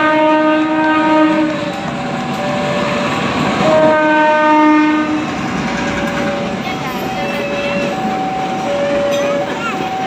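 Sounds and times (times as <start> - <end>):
locomotive air horn blasts: 0.0 - 1.8, 2.4 - 5.4, 6.0 - 10.0
train coaches rumbling and clattering: 0.0 - 10.0.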